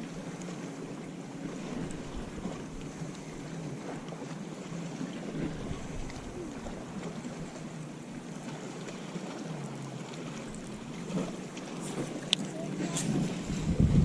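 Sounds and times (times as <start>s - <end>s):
light wind: 0.0s - 14.0s
water against hull: 0.0s - 14.0s.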